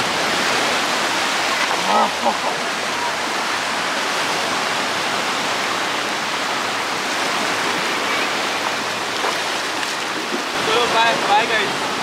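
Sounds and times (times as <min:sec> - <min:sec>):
sea surf breaking on shore: 0:00.0 - 0:12.0.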